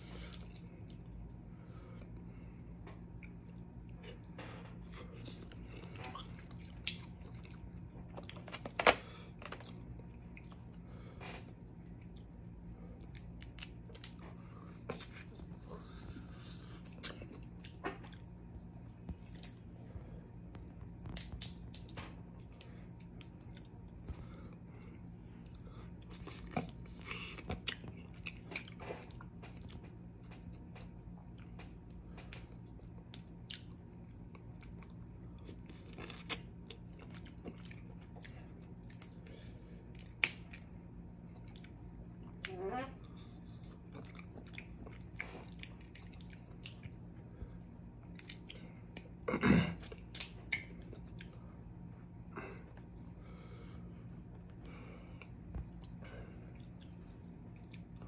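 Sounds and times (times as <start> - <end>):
chewing: 2.0 - 8.8, 9.4 - 51.6, 54.3 - 58.0.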